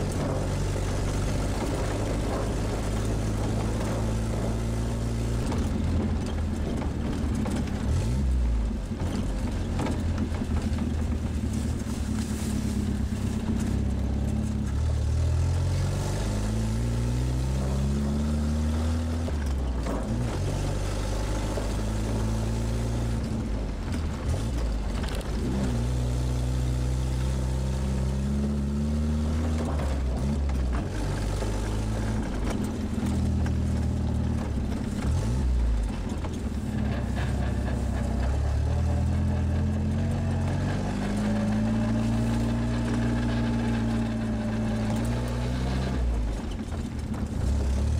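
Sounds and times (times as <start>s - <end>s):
car engine accelerating: 0.0s - 47.9s
road noise: 0.0s - 47.9s.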